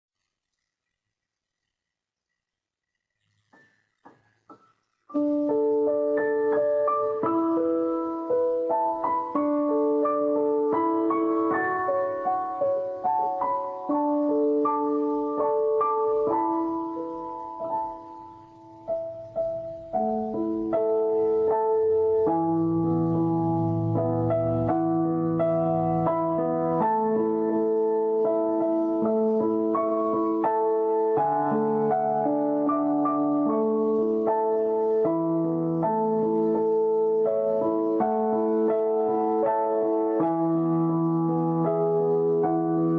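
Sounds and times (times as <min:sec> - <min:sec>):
gentle piano melody: 0:03.4 - 0:42.9.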